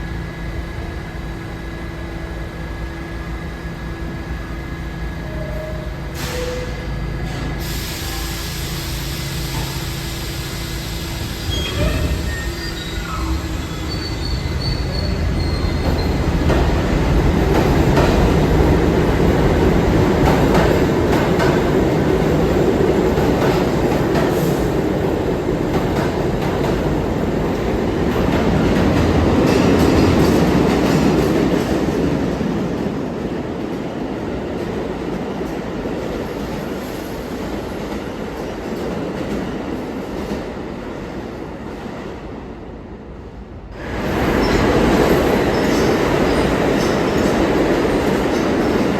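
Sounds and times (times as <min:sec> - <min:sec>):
subway train rumbling: 0:00.0 - 0:48.9.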